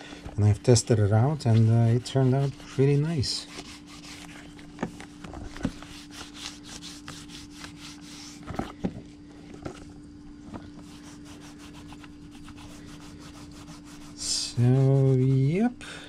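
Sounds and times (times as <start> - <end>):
steady low hum: 0.0 - 16.0
hands rubbing leather sheath: 0.4 - 8.8, 10.7 - 15.6.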